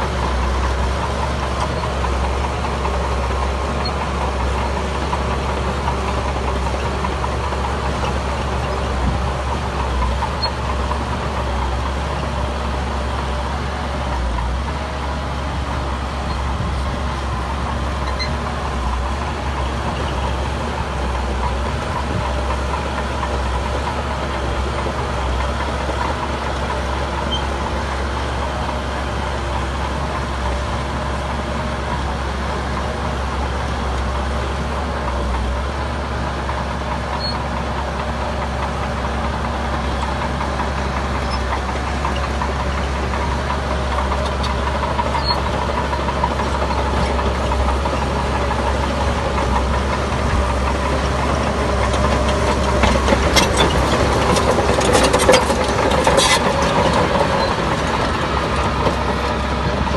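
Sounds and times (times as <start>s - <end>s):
diesel machinery rumbling: 0.0s - 59.9s.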